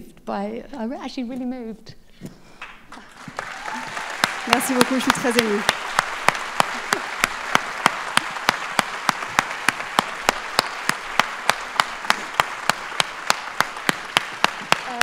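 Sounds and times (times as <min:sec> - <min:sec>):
crowd clapping in unison: 0:02.6 - 0:15.0
audience applause: 0:02.9 - 0:15.0.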